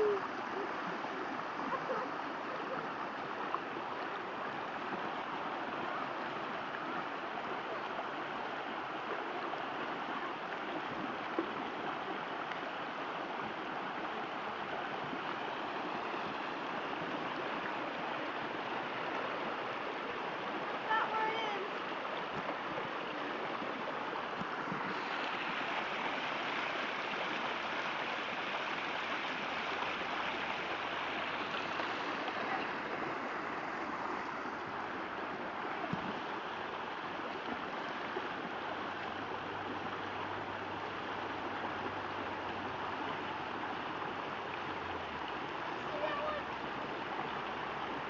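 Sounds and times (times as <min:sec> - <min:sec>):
creek water rushing: 0:00.0 - 0:48.0.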